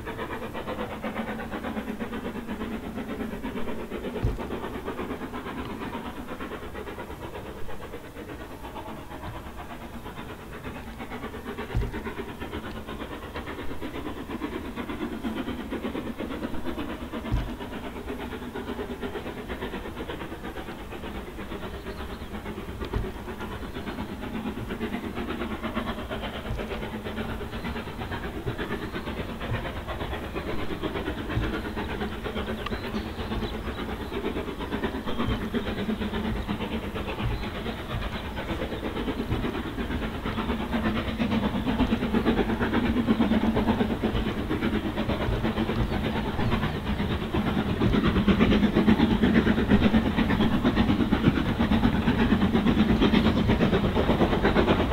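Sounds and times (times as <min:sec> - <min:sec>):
steam hiss: 0:00.0 - 0:54.9
train running on rails: 0:00.0 - 0:54.9.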